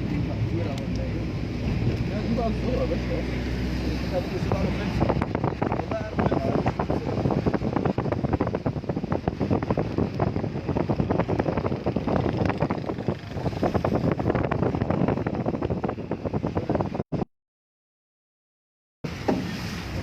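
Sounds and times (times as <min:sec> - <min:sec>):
heavy rain patter: 0:00.0 - 0:17.0
wind buffeting microphone: 0:00.0 - 0:17.2.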